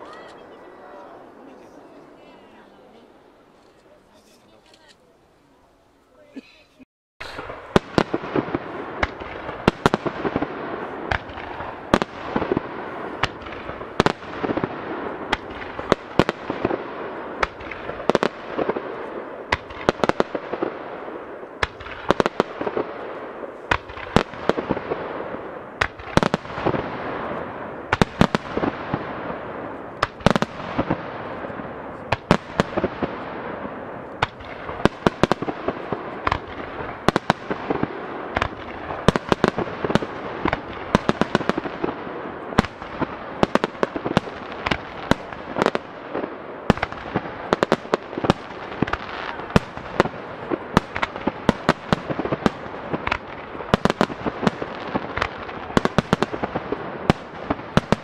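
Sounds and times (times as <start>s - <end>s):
fireworks crackling: 0.0s - 6.5s, 7.2s - 58.0s.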